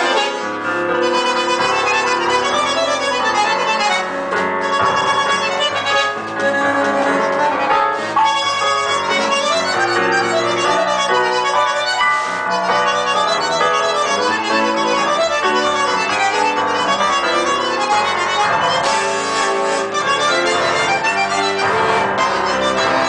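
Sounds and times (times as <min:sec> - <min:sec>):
bandoneon held notes: 0:00.0 - 0:23.0
keyboard accompaniment: 0:00.0 - 0:23.0.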